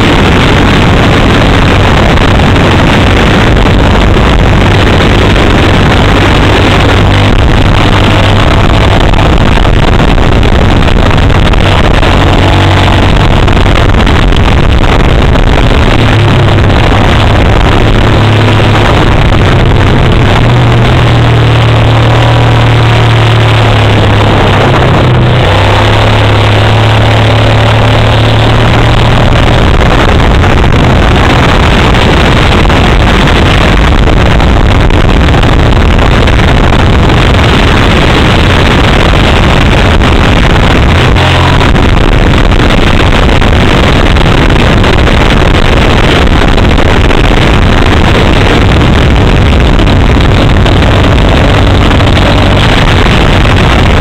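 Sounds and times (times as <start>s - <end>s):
low engine drone: 0.0s - 54.0s
road and wind noise: 0.0s - 54.0s.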